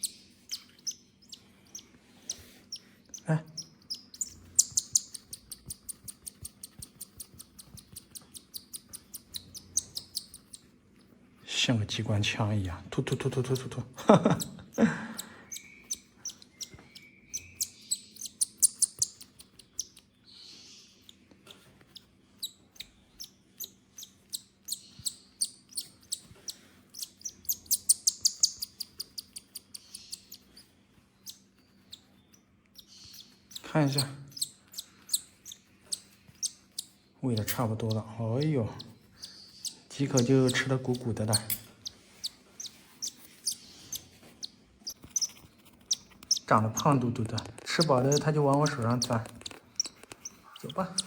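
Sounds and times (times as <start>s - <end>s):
parrot chick begging chirps: 0.0s - 10.6s, 13.3s - 21.2s, 22.0s - 30.5s, 31.2s - 51.0s.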